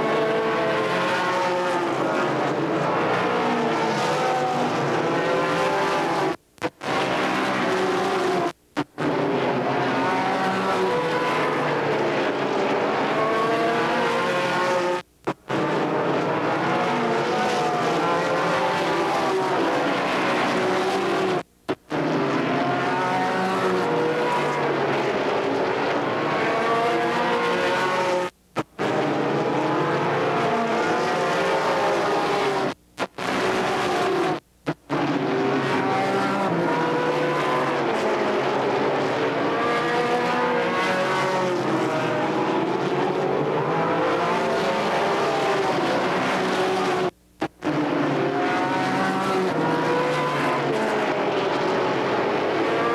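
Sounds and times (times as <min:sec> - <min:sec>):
race car engines passing by: 0:00.0 - 0:52.9.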